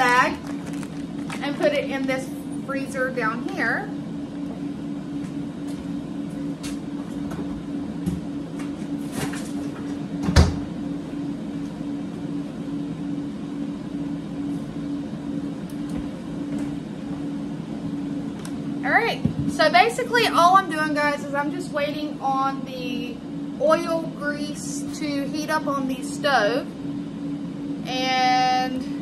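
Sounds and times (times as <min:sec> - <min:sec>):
kitchen appliance hum: 0:00.0 - 0:29.0.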